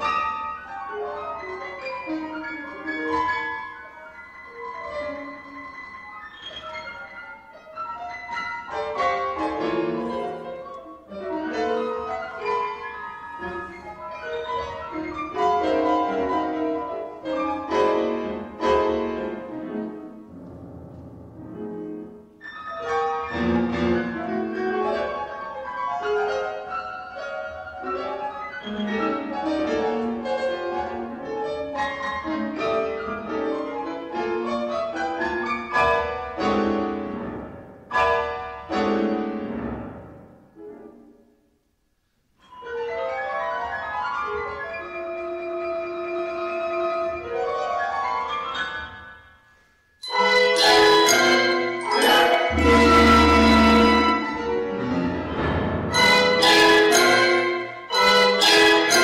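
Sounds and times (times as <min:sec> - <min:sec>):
piano with chamber ensemble: 0:00.0 - 0:59.0.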